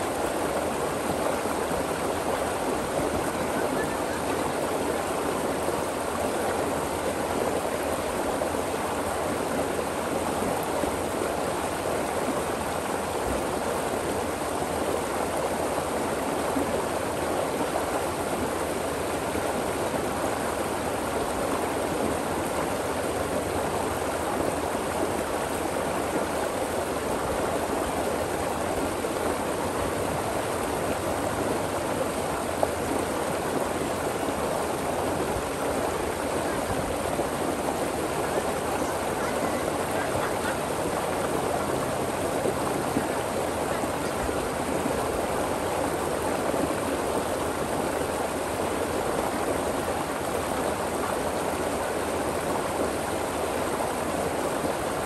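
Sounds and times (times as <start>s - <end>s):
stream water over rocks: 0.0s - 55.0s.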